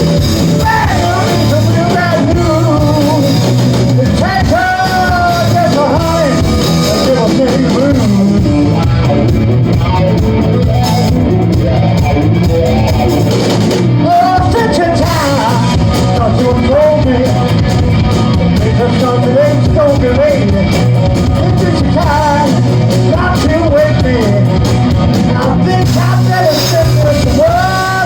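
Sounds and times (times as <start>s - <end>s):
man singing: 0.0s - 9.4s, 13.9s - 28.0s
live rock band playing: 0.0s - 28.0s.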